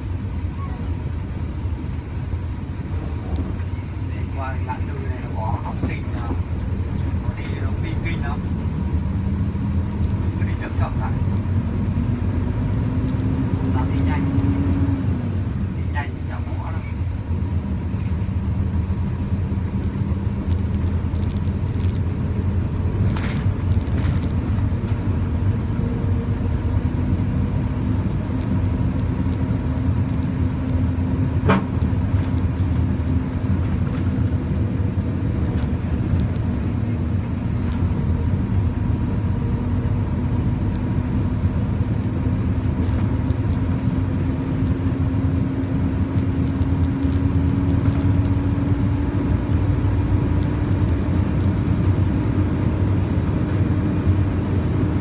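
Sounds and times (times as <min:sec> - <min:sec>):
low road rumble: 0:00.0 - 0:55.0
truck engine drone: 0:00.0 - 0:55.0.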